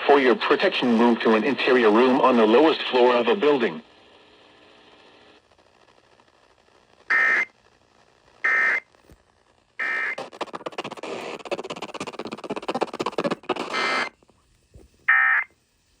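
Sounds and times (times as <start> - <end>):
crackling radio static: 0.0 - 16.0.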